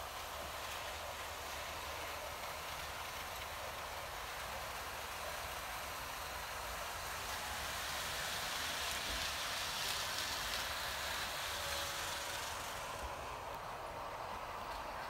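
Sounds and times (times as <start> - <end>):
model trains rolling on track: 0.0 - 15.0.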